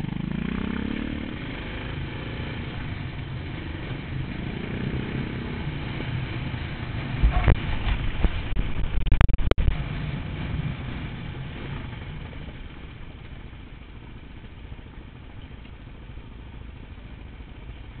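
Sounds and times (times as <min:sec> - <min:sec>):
motorcycle engine running: 0:00.0 - 0:18.0
rough ride noise: 0:00.0 - 0:18.0.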